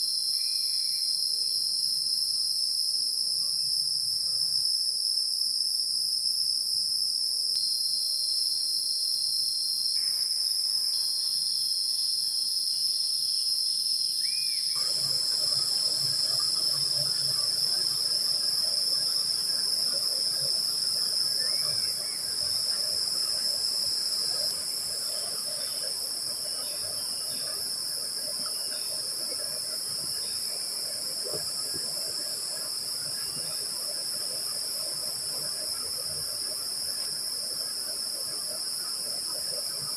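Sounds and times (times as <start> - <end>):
forest insects chorus: 0.0 - 39.9.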